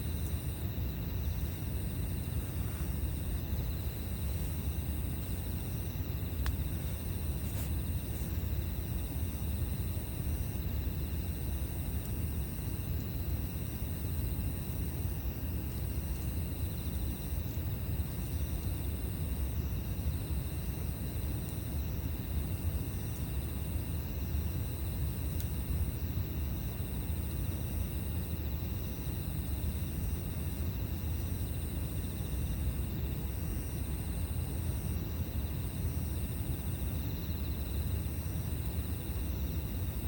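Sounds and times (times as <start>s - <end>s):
campfire burning: 0.0s - 17.1s, 20.2s - 28.3s, 29.0s - 40.0s
insects trilling: 0.0s - 40.0s.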